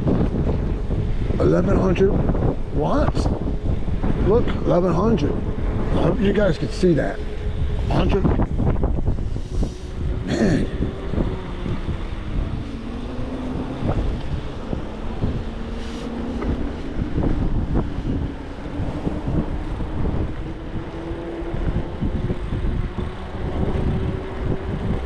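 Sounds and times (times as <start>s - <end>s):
wind buffeting microphone: 0.0s - 25.0s
electric motor whine: 3.3s - 25.0s.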